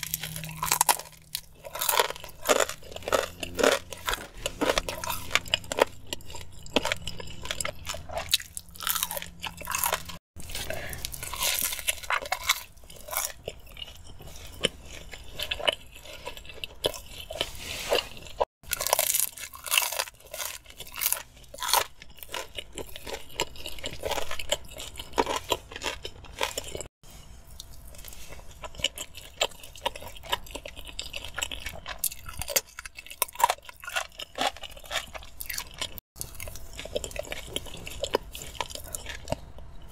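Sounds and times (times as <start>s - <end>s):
person chewing and crunching: 0.0s - 39.9s.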